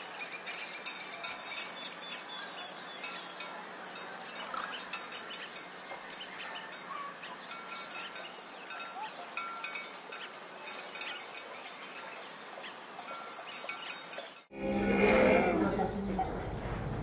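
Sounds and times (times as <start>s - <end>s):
livestock bells clinking: 0.0s - 16.4s.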